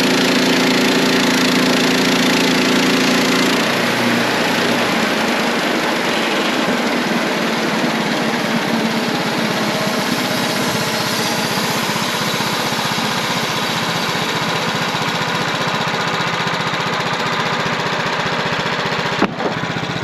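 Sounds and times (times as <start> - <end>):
band sawmill cutting log: 0.0 - 20.0.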